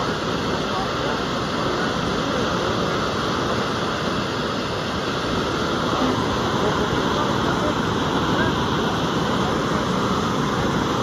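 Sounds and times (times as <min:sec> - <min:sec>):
water rushing steadily: 0:00.0 - 0:11.0.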